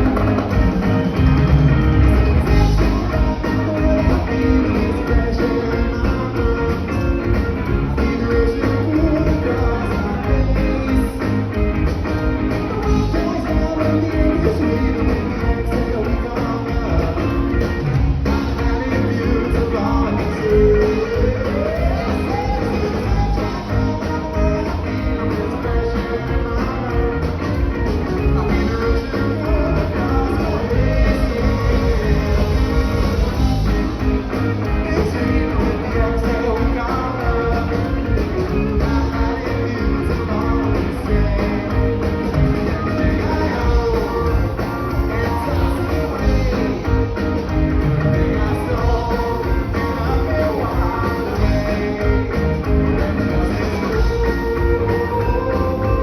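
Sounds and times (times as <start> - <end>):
bass guitar: 0.0 - 56.0
drums with steady beat: 0.0 - 56.0
electric guitar: 0.0 - 56.0
person singing: 0.0 - 56.0.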